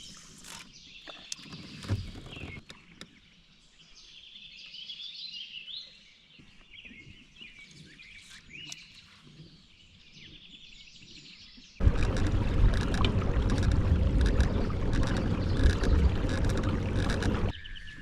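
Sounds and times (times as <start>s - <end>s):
faint birdsong chirping: 0.4s - 18.0s.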